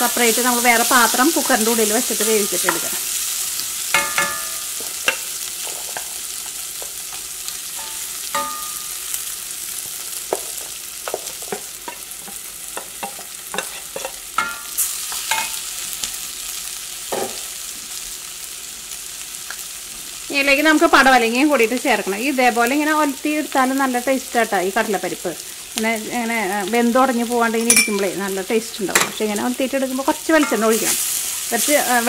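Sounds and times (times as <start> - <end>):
food sizzling in pan: 0.0 - 32.0.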